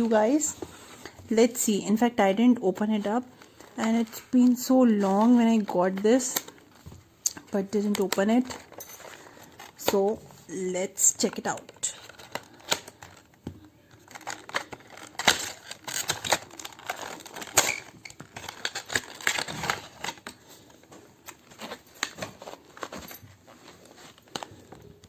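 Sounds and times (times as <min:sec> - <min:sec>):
cardboard and plastic packaging rustling: 0:00.0 - 0:01.3, 0:02.7 - 0:25.0.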